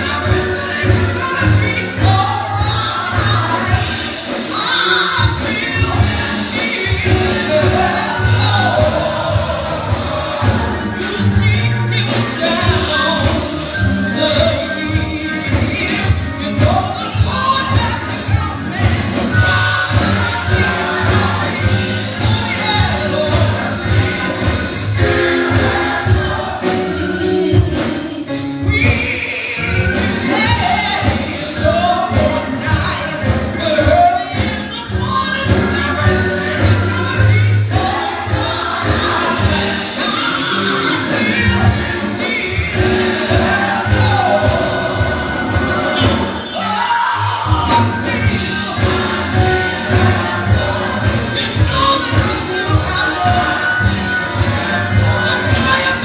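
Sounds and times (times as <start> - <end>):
choir singing gospel with band: 0.0 - 56.0.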